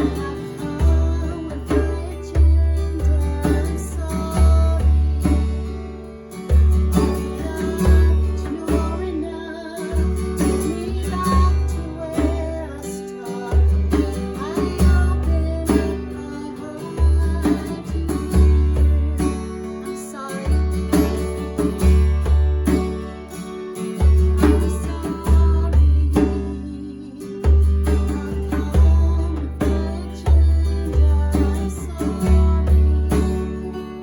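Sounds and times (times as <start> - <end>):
acoustic guitar: 0.0 - 34.0.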